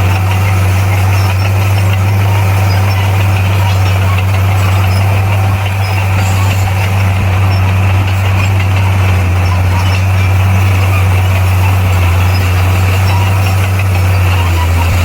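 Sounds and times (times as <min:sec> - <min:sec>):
large diesel engine droning: 0:00.0 - 0:15.0.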